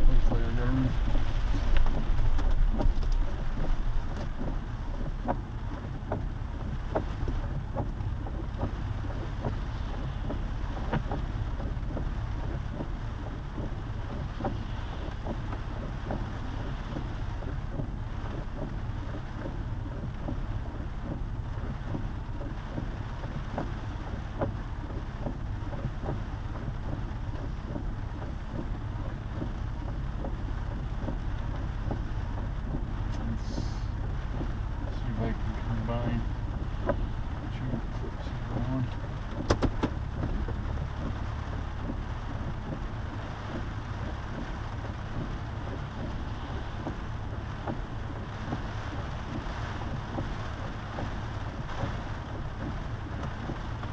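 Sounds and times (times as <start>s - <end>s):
low road rumble in car: 0.0s - 53.9s.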